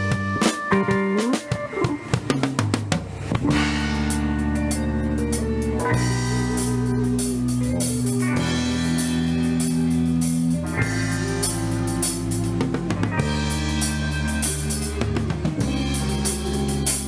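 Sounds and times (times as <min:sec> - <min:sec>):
band with guitar and drums: 0:00.0 - 0:17.0.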